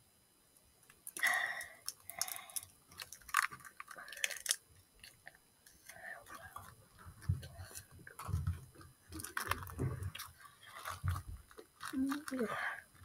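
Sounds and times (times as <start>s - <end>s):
child chewing candy: 1.0s - 8.4s, 9.1s - 13.0s.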